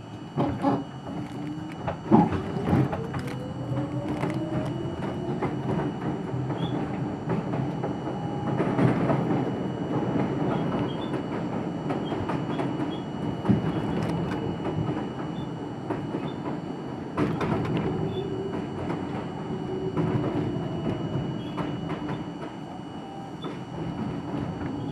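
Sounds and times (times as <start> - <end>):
subway train running: 0.0 - 24.9.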